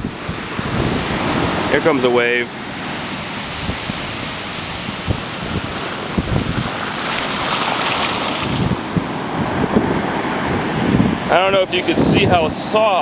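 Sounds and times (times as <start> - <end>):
foamy wash rushing up sand: 0.0 - 13.0
ocean surf breaking: 0.0 - 13.0
wind buffeting microphone: 0.0 - 13.0.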